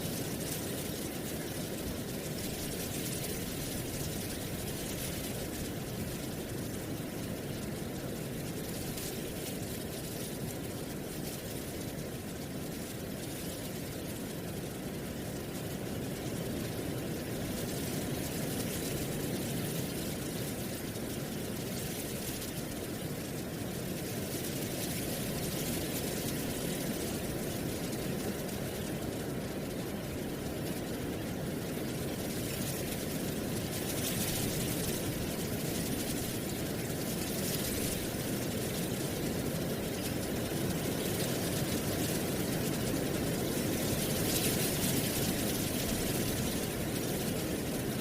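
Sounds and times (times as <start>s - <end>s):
steady wind: 0.0s - 48.0s.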